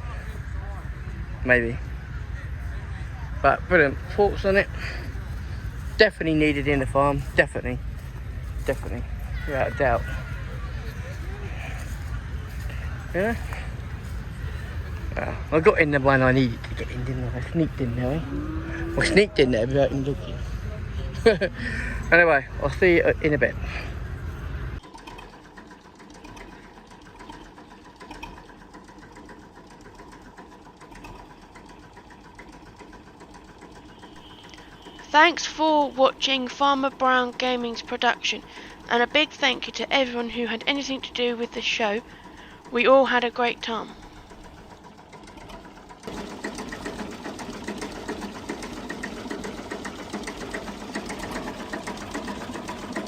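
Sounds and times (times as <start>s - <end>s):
small machine clattering: 3.8s - 53.0s.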